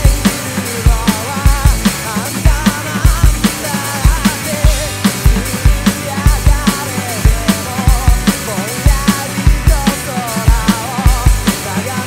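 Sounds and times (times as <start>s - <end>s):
electronic drum kit beat: 0.0s - 12.0s
person singing: 0.0s - 12.0s
punk rock guitars: 0.0s - 12.0s.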